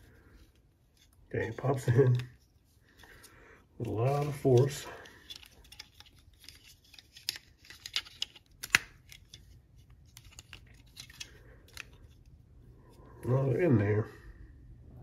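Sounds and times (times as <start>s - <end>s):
plastic parts clicking and rubbing: 0.0s - 12.4s.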